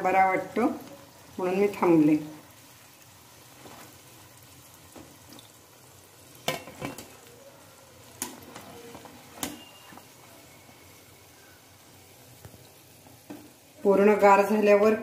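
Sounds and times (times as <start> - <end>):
oil sizzling in deep-frying: 0.0 - 15.0.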